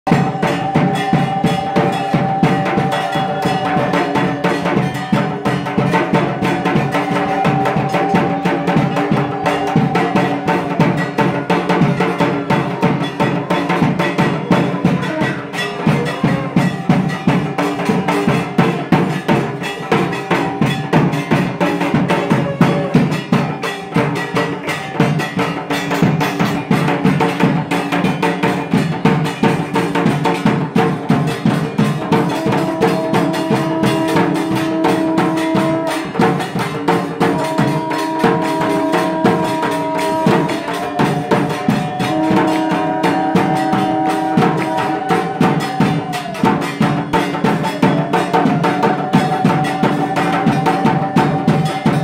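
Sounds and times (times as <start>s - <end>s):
fast continuous drumming: 0.0s - 52.0s
held tone: 0.1s - 24.0s, 32.0s - 52.0s.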